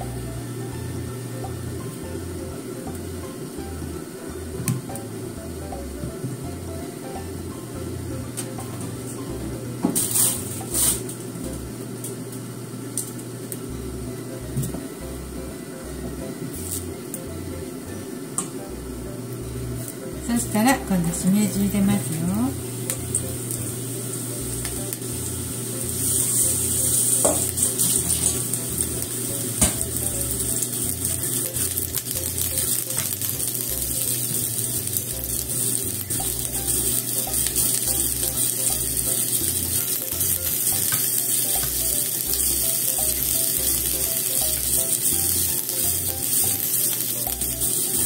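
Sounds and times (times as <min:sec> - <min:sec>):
mushrooms sizzling in a frying pan: 0:00.0 - 0:48.0.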